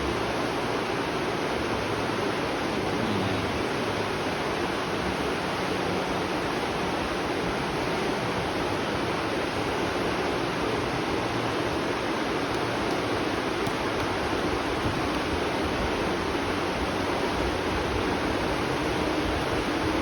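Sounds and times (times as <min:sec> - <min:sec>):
flowing spring water: 0:00.0 - 0:20.0.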